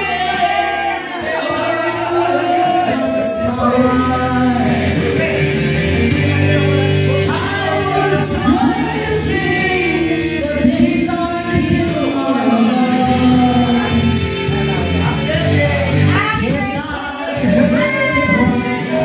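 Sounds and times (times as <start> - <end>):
music backing track: 0.0 - 19.0.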